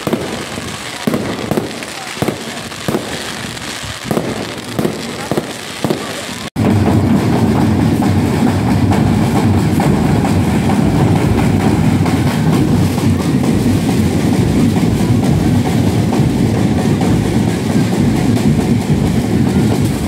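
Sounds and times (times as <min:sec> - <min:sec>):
firework crackle: 0:00.0 - 0:20.0
procession drums beating: 0:00.0 - 0:20.0.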